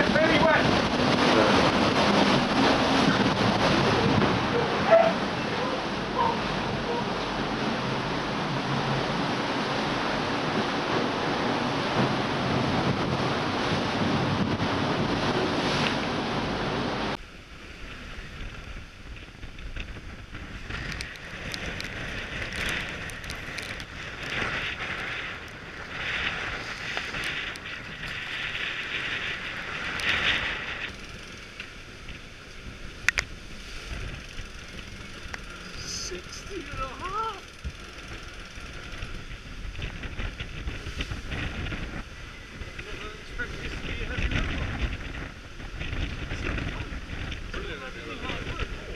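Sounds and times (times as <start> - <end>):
rushing water: 0.0 - 48.9
wind on microphone: 0.0 - 48.9.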